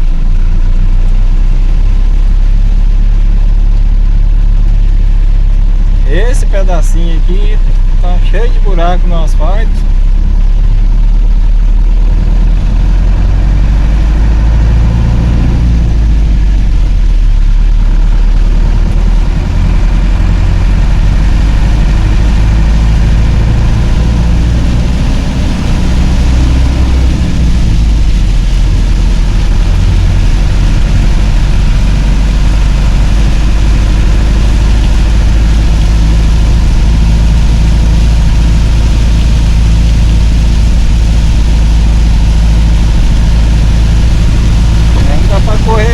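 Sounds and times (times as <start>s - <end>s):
rain: 0.0s - 45.9s
tyres hissing on wet road: 0.0s - 45.9s
vehicle engine cruising: 0.0s - 45.9s.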